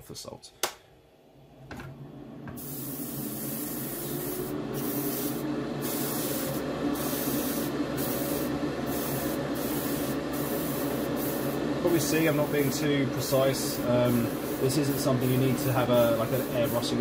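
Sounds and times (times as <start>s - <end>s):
airbrush hissing: 2.6s - 17.0s.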